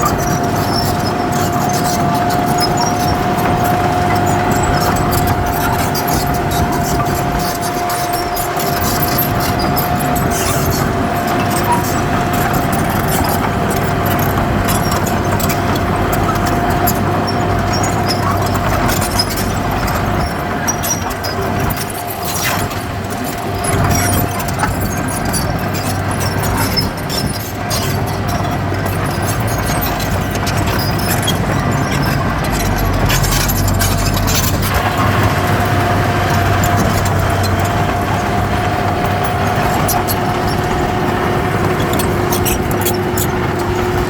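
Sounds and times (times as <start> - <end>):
clicks and clanks: 0.0 - 44.0
heavy machinery engine with whine: 0.0 - 44.0.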